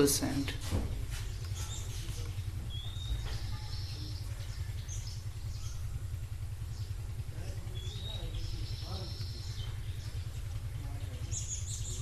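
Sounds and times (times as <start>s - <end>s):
steady low hum: 0.0s - 12.0s
faint high bird chirps: 1.2s - 12.0s.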